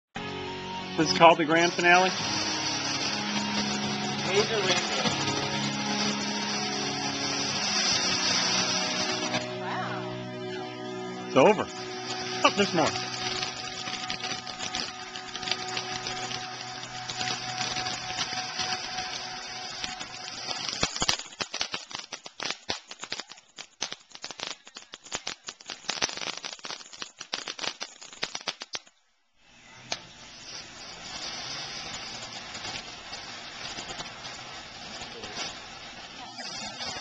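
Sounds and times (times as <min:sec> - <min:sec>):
firework crackling: 0:00.2 - 0:37.0
firework fountain hissing: 0:00.2 - 0:37.0.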